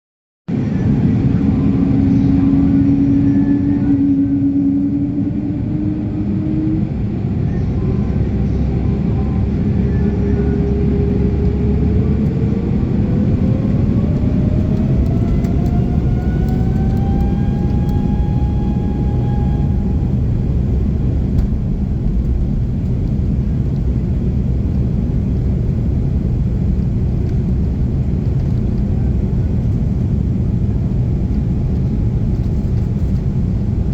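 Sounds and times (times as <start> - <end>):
jet airliner taking off: 0.5 - 33.9
jet engine whine rising: 0.5 - 33.9.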